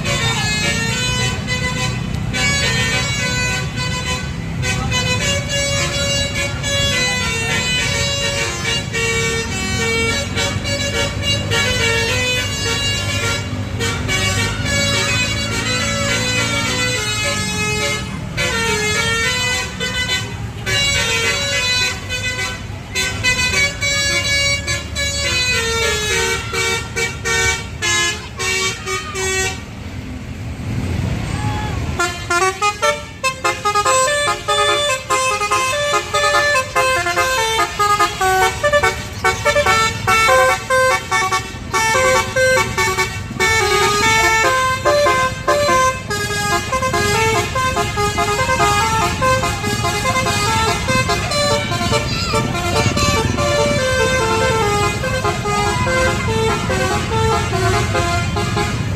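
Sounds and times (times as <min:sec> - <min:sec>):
bus horn playing musical tones: 0:00.0 - 0:30.1, 0:31.8 - 0:58.9
bus engine rumble: 0:00.0 - 0:58.9.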